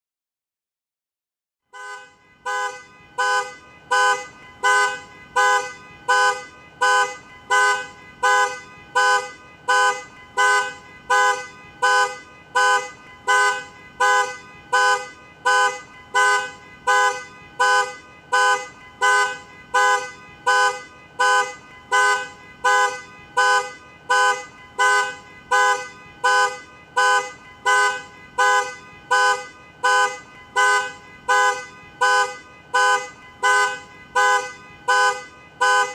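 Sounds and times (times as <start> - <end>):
car alarm honking: 1.6 - 35.9.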